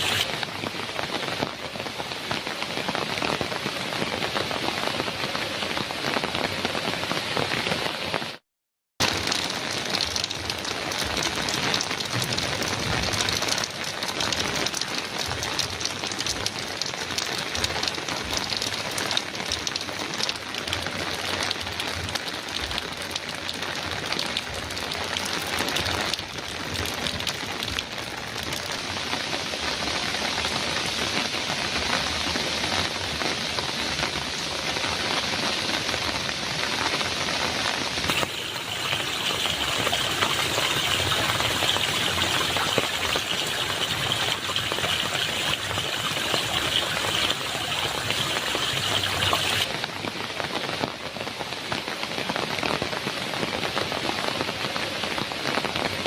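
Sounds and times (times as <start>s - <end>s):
heavy rain on a metal roof: 0.0s - 8.4s, 9.0s - 56.0s.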